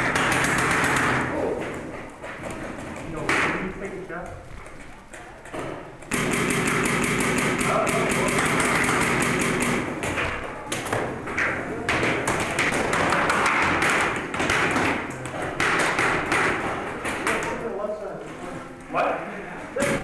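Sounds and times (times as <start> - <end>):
paintball markers firing: 0.0 - 3.9, 4.7 - 17.6.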